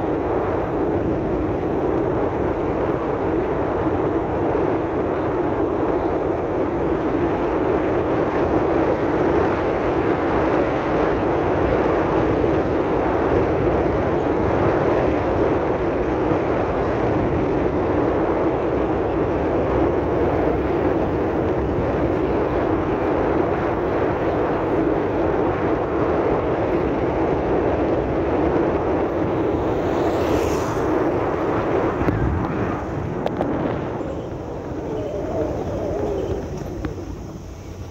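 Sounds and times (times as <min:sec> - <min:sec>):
vehicle road noise on dirt road: 0:00.0 - 0:37.9
wind rushing: 0:00.0 - 0:37.9.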